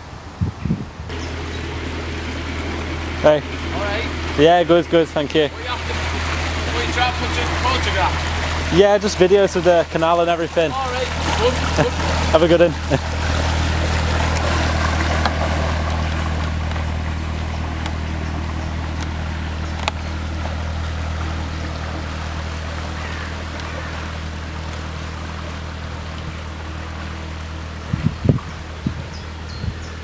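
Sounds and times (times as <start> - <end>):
boat engine running: 1.1 - 30.0.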